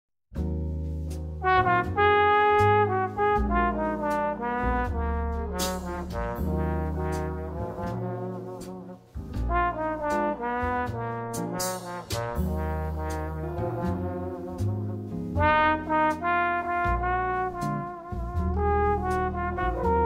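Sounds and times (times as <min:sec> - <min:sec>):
bass line: 0:00.4 - 0:20.0
brass melody: 0:00.9 - 0:20.0.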